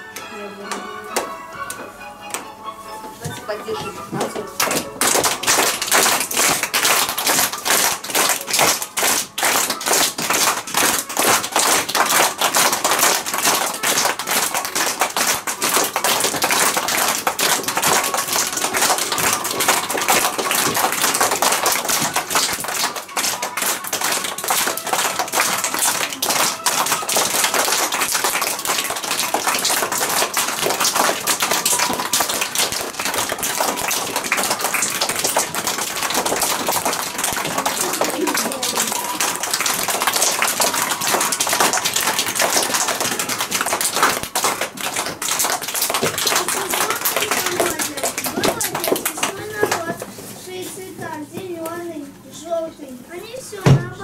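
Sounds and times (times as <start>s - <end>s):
audience clapping: 4.2s - 50.0s.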